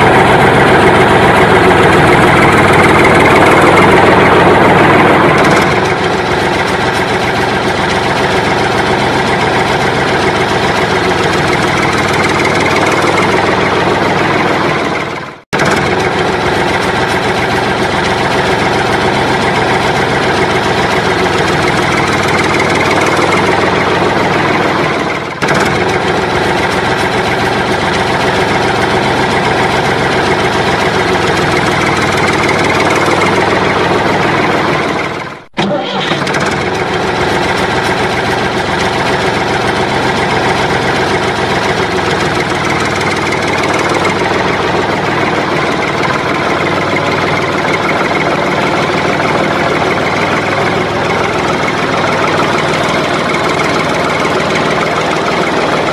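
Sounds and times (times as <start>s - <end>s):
vehicle engine running: 0.0s - 55.9s.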